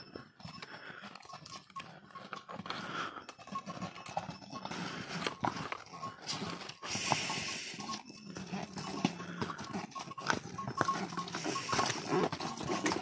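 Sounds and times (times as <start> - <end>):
hooves clopping on stone trail: 0.0 - 13.0.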